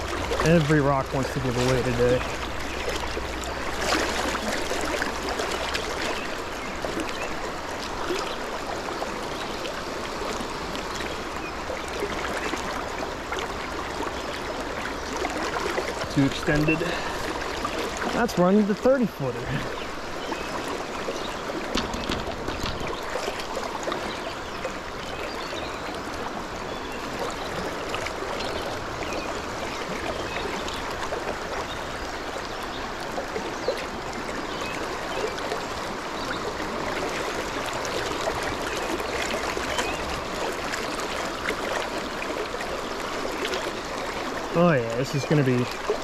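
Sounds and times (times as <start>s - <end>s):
water rushing over rocks: 0.0s - 46.0s.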